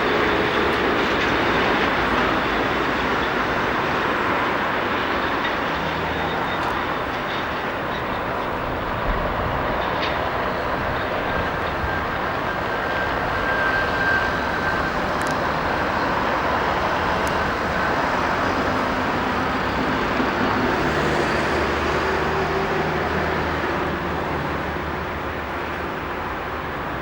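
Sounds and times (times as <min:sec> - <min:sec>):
diesel train rumbling on tracks: 0:00.0 - 0:27.0.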